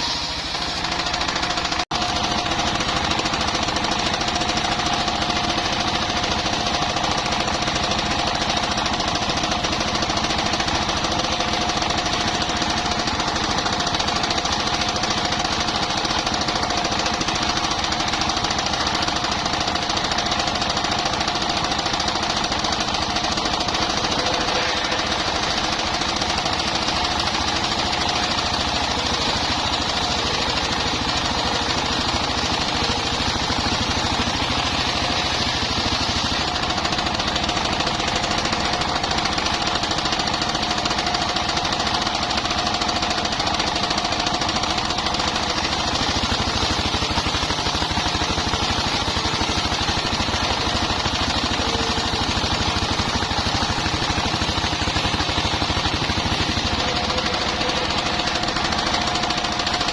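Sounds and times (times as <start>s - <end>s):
engine knocking beat: 0.0s - 59.9s
saw blade whine: 0.0s - 59.9s.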